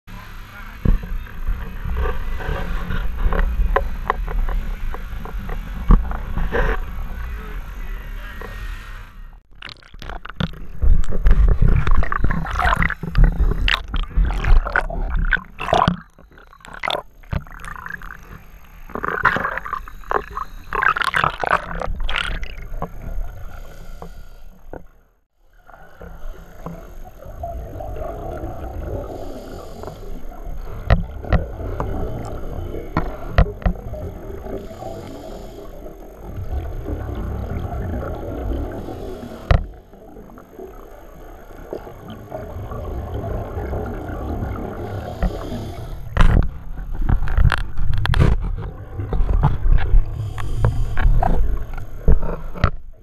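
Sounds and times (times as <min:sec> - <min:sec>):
low rumble of churning water: 0:00.1 - 0:53.0
underwater water rushing and bubbling: 0:00.1 - 0:53.0
regulator exhaust bubbles: 0:09.4 - 0:24.9, 0:25.6 - 0:53.0.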